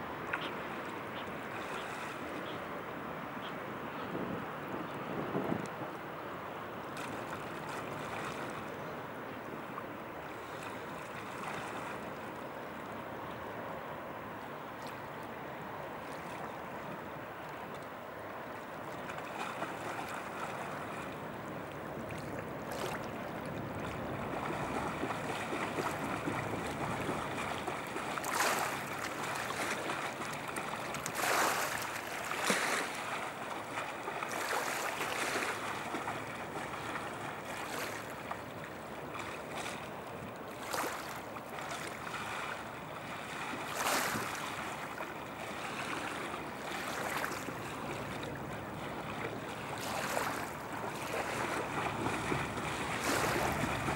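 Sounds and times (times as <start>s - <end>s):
river water washing on shore: 0.0s - 53.9s
water splashing surges: 4.5s - 53.9s.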